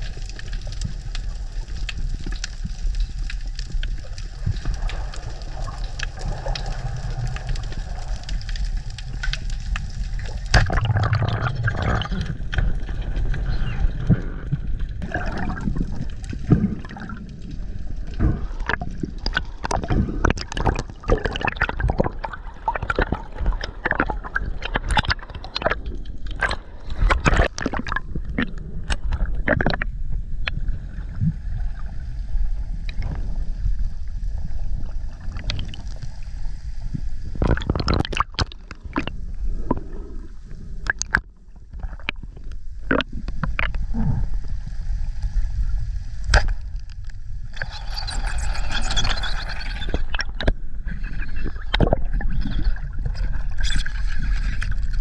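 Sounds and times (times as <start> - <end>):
underwater water rumble and gurgling: 0.0 - 55.0.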